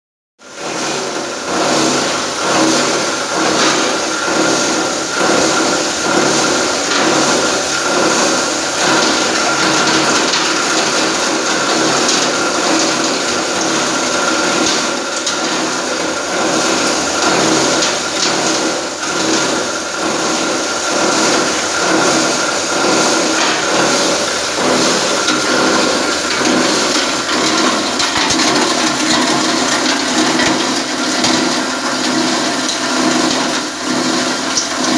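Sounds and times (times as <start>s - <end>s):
grinder motor hum: 1.5s - 34.9s.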